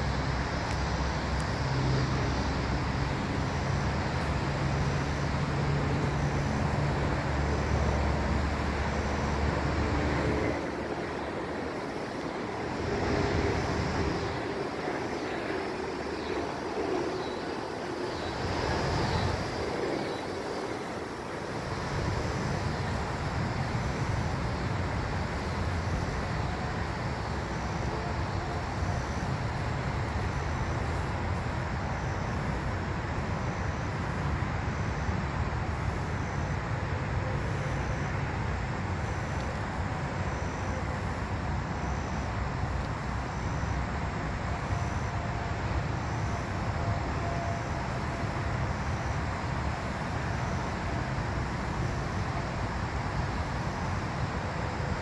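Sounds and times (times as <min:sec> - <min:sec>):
faint cicadas calling: 0:00.0 - 0:55.0
road traffic rumble: 0:00.0 - 0:55.0.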